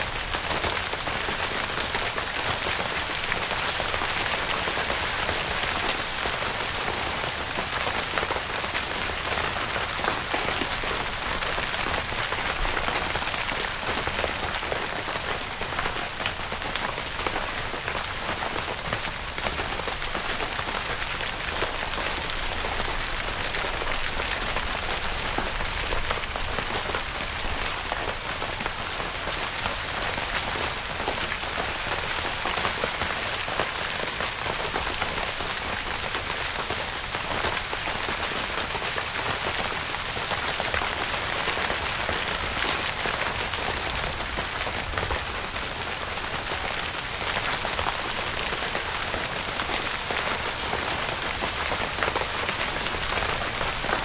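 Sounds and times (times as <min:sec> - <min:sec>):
rain falling on a tent: 0:00.0 - 0:54.0.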